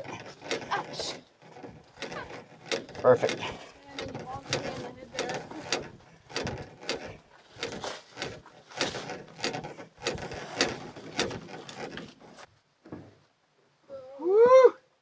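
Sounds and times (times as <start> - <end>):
canoe creaking and knocking: 0.0 - 13.2.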